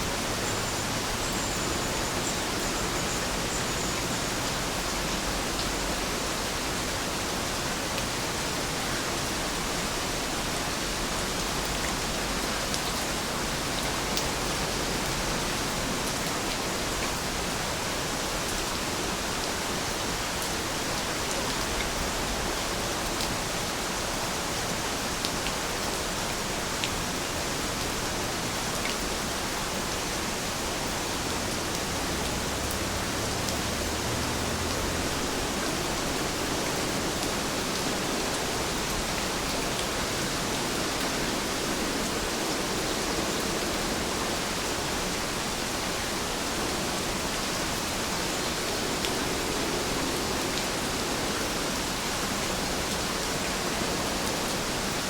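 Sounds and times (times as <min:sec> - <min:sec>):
dense rain falling: 0:00.0 - 0:55.0.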